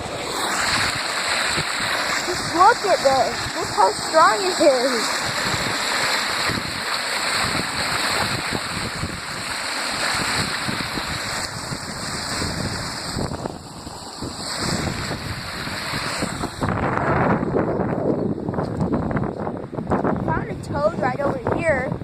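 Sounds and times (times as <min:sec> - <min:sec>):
floodwater rushing: 0:00.0 - 0:18.6
wind buffeting microphone: 0:00.0 - 0:22.0.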